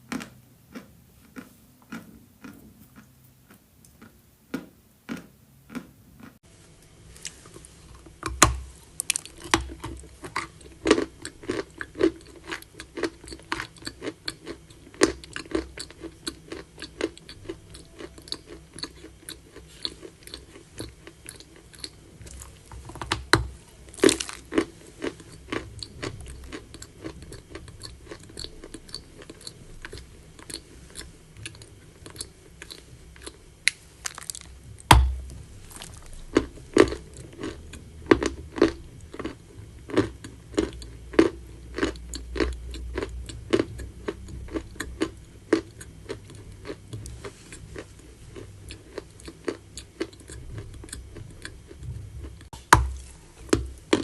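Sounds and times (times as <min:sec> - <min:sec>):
crunching and chewing chalk: 0:00.0 - 0:06.4, 0:07.1 - 0:54.0.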